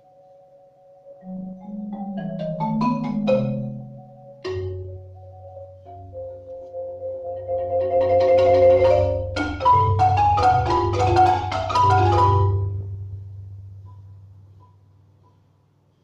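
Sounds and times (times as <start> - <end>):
marimba played with mallets: 0.0 - 14.2.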